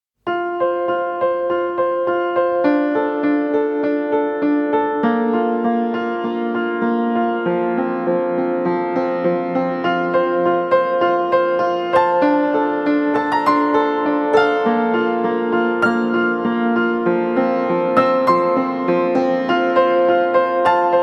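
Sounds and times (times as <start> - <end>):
piano repeating pattern: 0.3 - 21.0.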